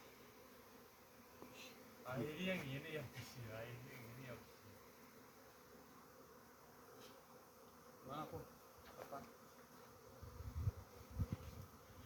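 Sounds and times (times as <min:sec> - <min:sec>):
insects buzzing faintly: 0:00.0 - 0:12.0.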